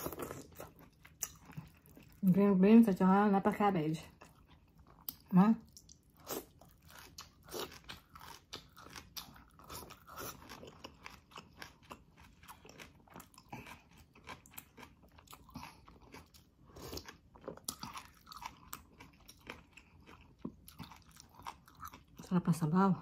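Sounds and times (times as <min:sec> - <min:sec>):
chewing crunches: 0:00.0 - 0:02.2, 0:04.1 - 0:22.3.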